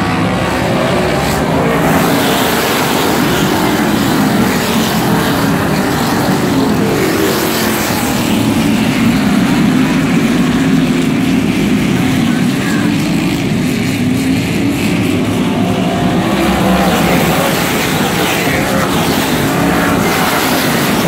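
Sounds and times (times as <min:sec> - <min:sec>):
race cars racing past: 0:00.0 - 0:21.0.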